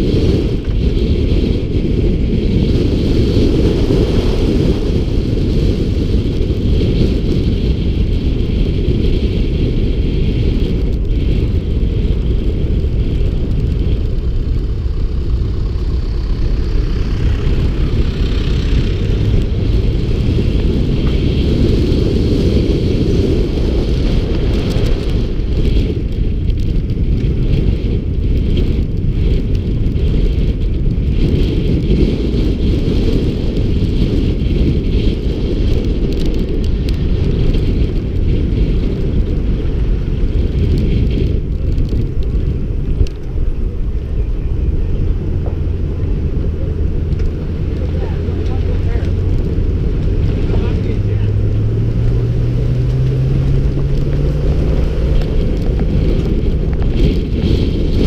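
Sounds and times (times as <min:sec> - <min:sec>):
pickup truck driving: 0:00.0 - 0:58.0
wind buffeting microphone: 0:00.0 - 0:58.0.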